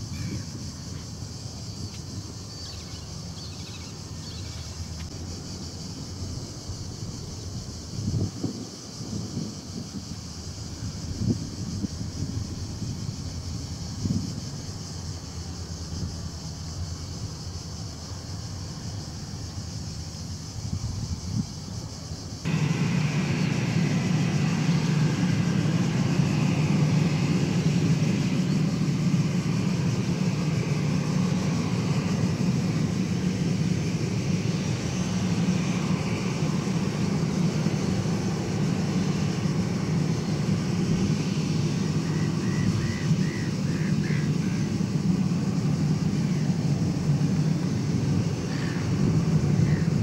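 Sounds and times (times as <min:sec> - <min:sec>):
jet engines running at low power: 0:00.0 - 0:50.0.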